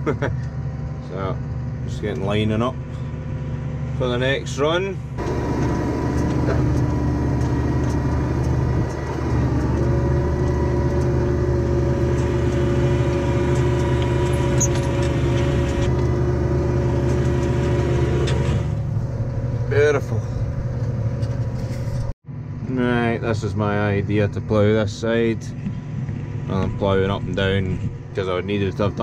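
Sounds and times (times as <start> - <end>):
tractor diesel engine under load: 0.0 - 29.0
steady whine: 0.1 - 29.0.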